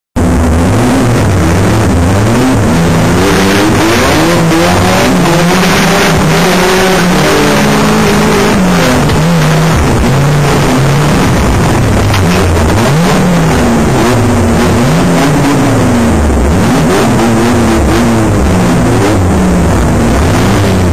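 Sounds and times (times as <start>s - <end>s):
car engine revving hard: 0.2s - 20.9s
loud rushing noise: 0.2s - 20.9s.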